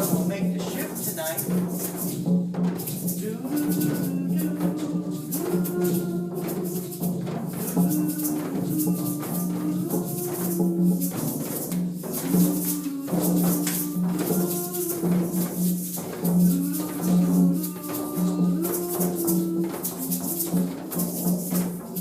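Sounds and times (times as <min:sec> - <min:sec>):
shakers and hand percussion: 0:00.0 - 0:22.0.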